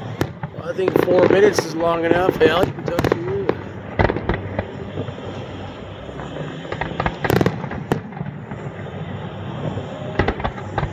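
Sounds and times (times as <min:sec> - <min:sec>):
continuous rumble: 0:00.0 - 0:10.9
fireworks bangs: 0:00.0 - 0:10.9.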